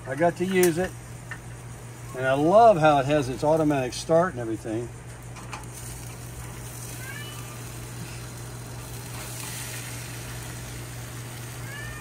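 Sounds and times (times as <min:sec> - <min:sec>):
faint hiss: 0:00.4 - 0:12.0.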